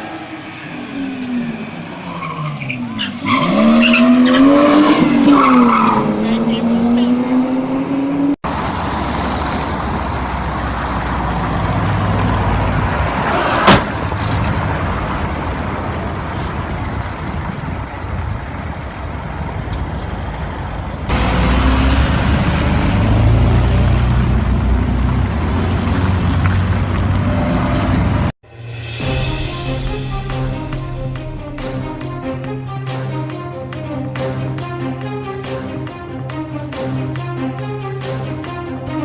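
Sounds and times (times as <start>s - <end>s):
vehicle engine and road rumble: 0.0s - 39.0s.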